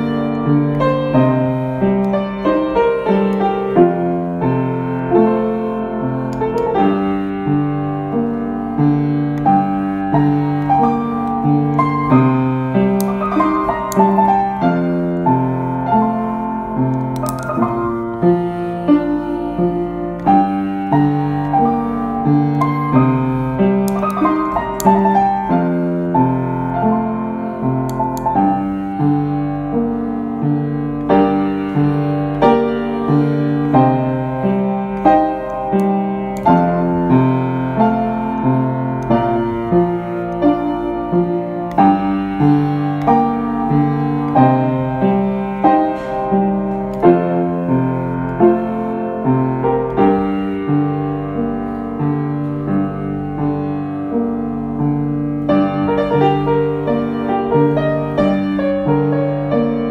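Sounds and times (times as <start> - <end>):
slow calm piano music: 0.0 - 59.9.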